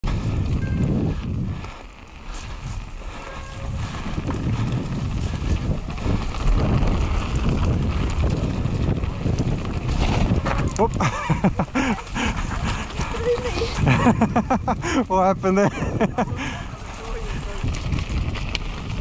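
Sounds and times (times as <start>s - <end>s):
bike tyres rumbling over gravel: 0.0s - 19.0s
wind buffeting microphone: 0.0s - 19.0s.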